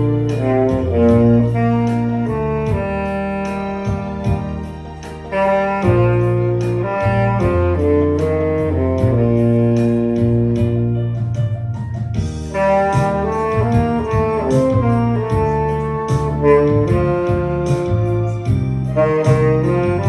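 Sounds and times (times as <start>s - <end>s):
backing track with drum beat: 0.0s - 20.0s
tenor saxophone melody: 0.0s - 20.0s.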